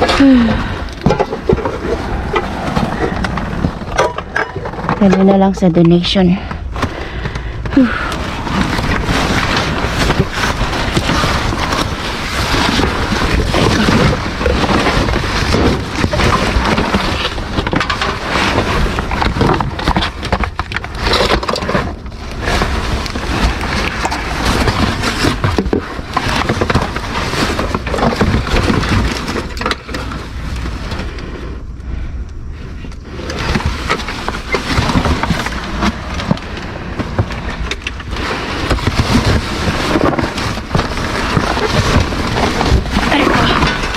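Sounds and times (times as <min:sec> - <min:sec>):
trash bags rustling and crinkling: 0:00.0 - 0:31.5, 0:32.6 - 0:43.9.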